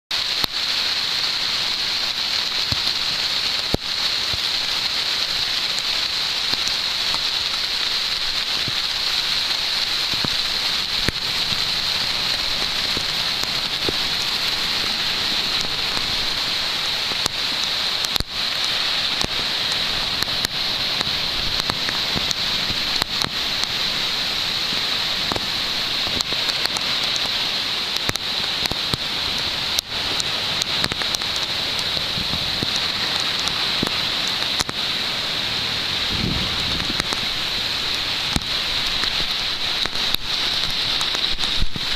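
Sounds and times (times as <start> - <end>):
heavy rain: 0.1 - 41.9.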